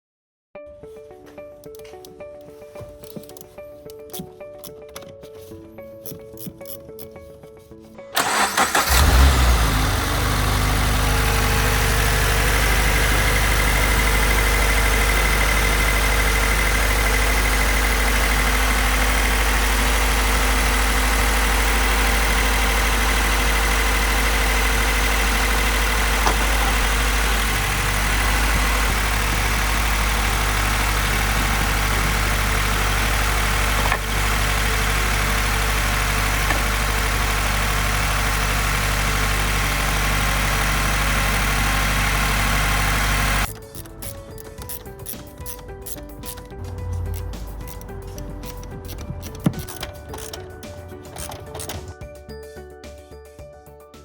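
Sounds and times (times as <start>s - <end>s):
car engine starting and idling: 8.2s - 52.0s.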